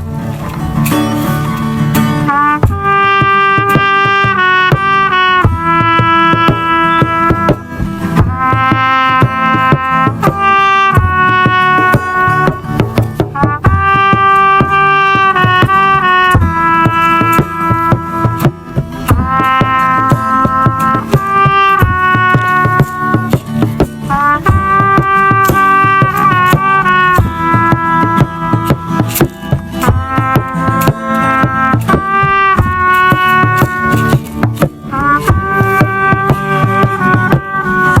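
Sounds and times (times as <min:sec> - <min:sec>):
drums and percussion: 0:00.0 - 0:38.0
brass playing long held notes: 0:02.2 - 0:38.0.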